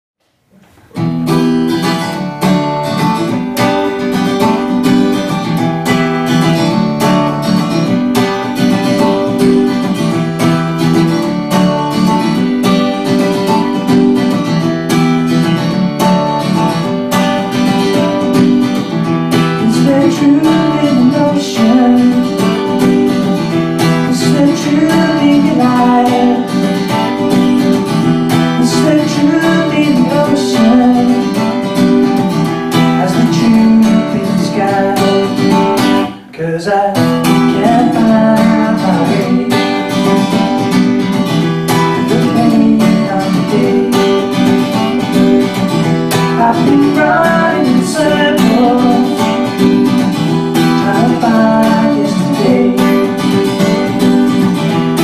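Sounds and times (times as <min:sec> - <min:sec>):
acoustic guitar strumming chords: 0:00.2 - 0:55.0.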